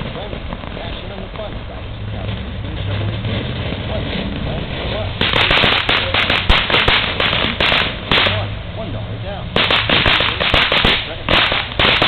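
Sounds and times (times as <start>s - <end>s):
firework crackling pops: 0.0s - 8.5s, 9.5s - 12.0s.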